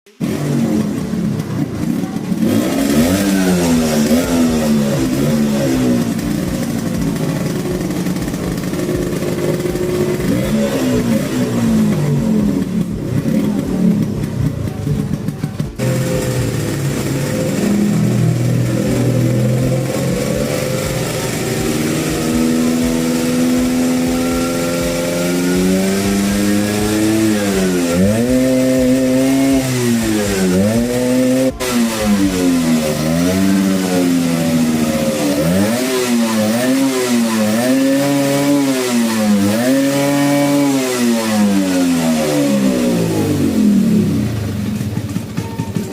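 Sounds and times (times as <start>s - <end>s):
scooter engine revving: 0.0s - 45.9s.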